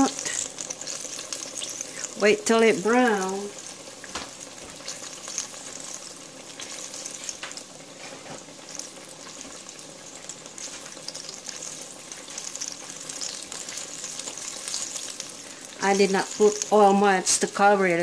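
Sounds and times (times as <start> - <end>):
pies sizzling in oil: 0.0 - 18.0.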